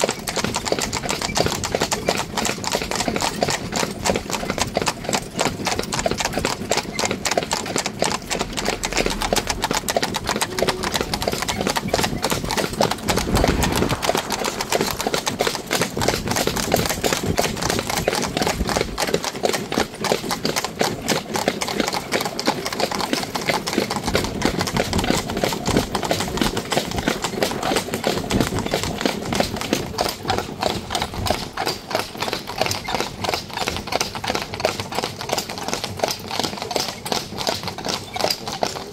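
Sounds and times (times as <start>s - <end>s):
horse hooves trotting on asphalt: 0.0s - 38.9s.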